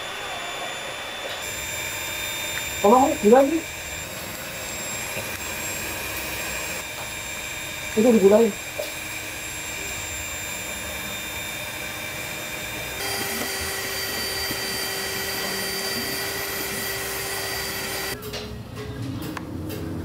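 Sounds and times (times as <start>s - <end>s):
mechanical whirring: 0.0s - 18.2s.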